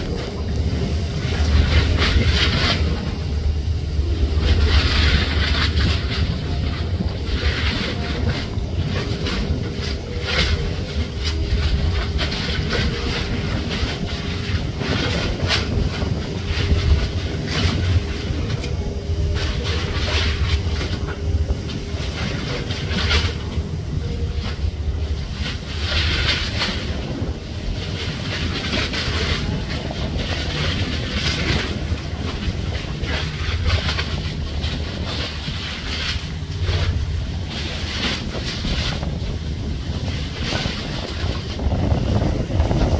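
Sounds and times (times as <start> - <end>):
faint ship engine hum: 0.0 - 42.9
wind buffeting microphone: 0.0 - 42.9.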